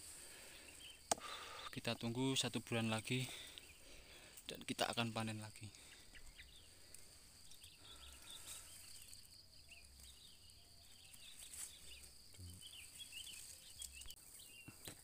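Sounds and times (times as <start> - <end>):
high insect drone: 0.0 - 14.7
small birds chirping: 0.0 - 15.0.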